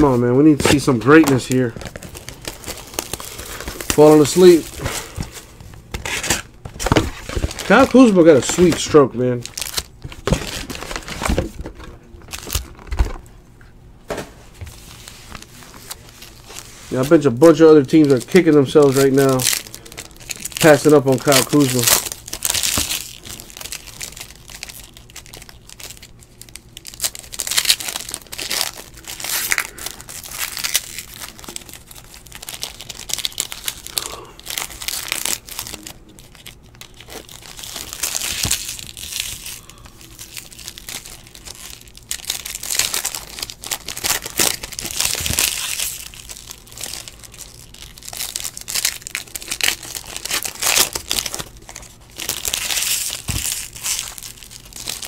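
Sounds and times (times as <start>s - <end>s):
foil packs tearing open: 0.0s - 13.2s, 15.3s - 55.0s
foil wrappers crinkling: 0.0s - 13.4s, 14.6s - 55.0s.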